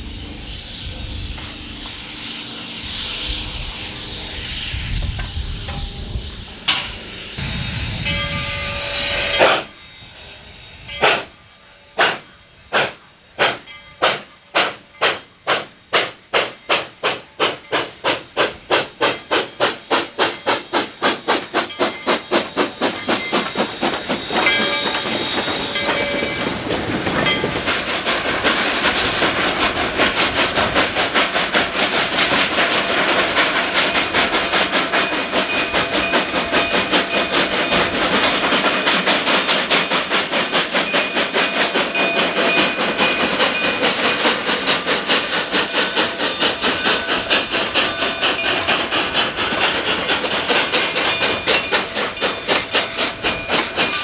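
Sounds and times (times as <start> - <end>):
steam locomotive exhaust chuffs: 0.0 - 54.0.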